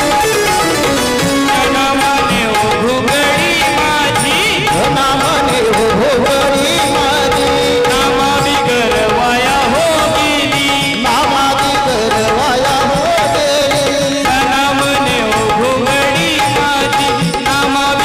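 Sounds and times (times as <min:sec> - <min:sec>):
hand drum percussion: 0:00.0 - 0:18.0
harmonium drone: 0:00.0 - 0:18.0
man singing into microphone: 0:00.0 - 0:18.0.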